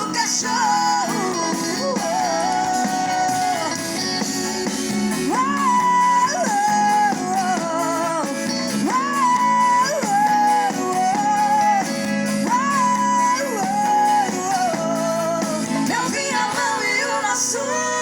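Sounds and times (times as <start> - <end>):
guitar accompaniment: 0.0 - 18.0.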